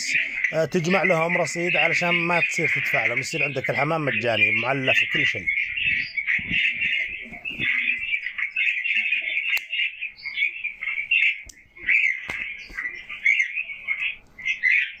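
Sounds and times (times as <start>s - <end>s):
cage birds twittering: 0.0s - 15.0s.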